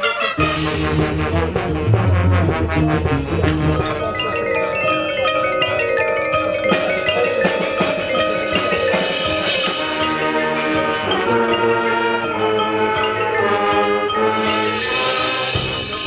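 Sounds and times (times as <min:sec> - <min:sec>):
marching band brass chords: 0:00.0 - 0:16.0
marimba and glockenspiel: 0:00.4 - 0:16.0.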